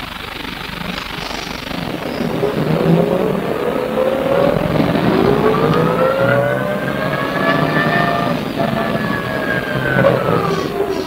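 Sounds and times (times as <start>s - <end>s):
bus drivetrain whining: 0.0s - 11.0s
road noise: 0.0s - 11.0s
rumbling engine: 0.0s - 11.0s.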